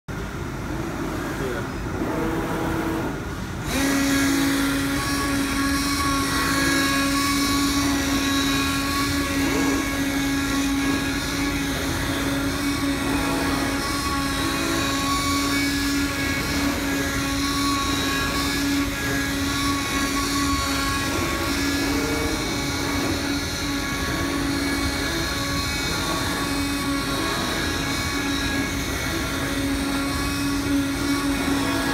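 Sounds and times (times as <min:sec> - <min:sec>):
digital cutter humming: 0:00.2 - 0:31.9
steady buzzing tone: 0:00.3 - 0:31.9.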